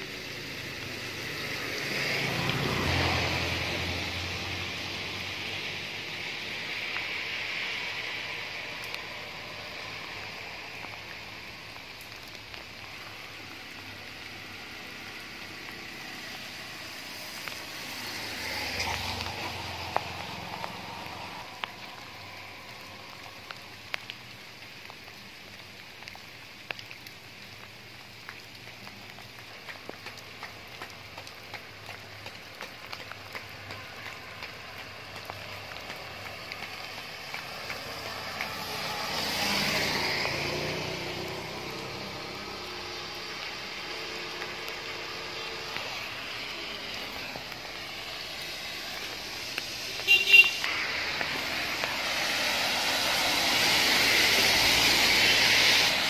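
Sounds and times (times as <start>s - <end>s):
light rain hissing: 0.0s - 56.0s
rain ticks: 0.0s - 56.0s
rushing swell of rain: 0.0s - 56.0s.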